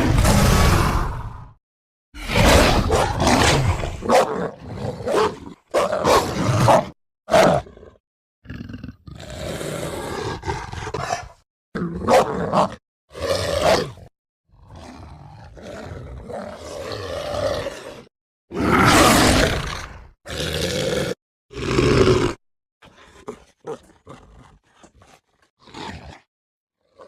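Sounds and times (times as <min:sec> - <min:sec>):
creature roars and growls: 0:00.0 - 0:01.6, 0:02.2 - 0:24.7.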